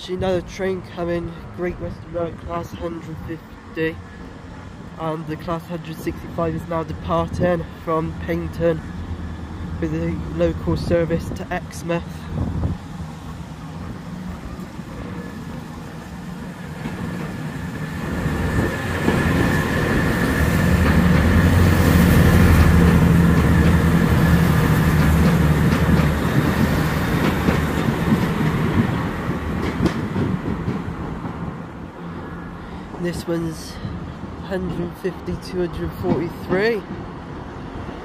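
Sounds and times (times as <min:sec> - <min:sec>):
diesel train engines: 0:00.0 - 0:38.0.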